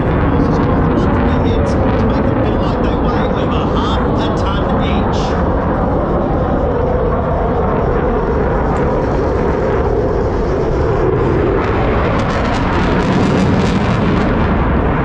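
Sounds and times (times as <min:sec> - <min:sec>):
aircraft engine roar: 0:00.0 - 0:15.0.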